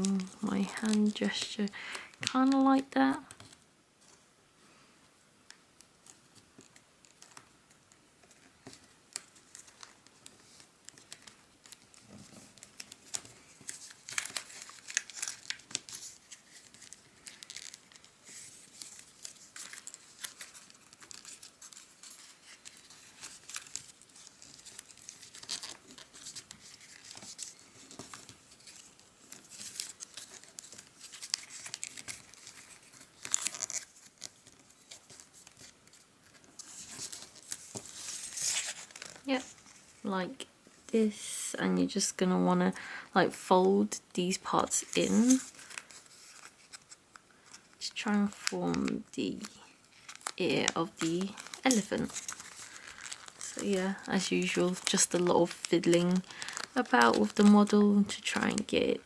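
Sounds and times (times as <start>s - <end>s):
paper crinkling being folded: 0.0s - 4.3s, 5.5s - 40.9s, 41.8s - 59.0s.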